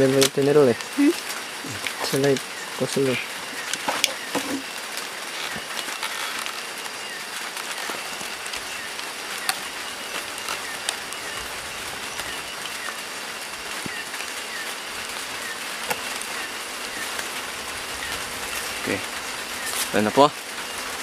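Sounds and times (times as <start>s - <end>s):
night ambience hiss: 0.0s - 21.0s.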